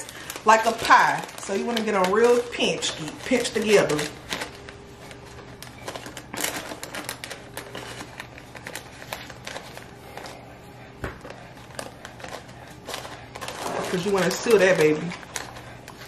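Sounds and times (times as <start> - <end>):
parchment paper crinkling: 0.0 - 16.0.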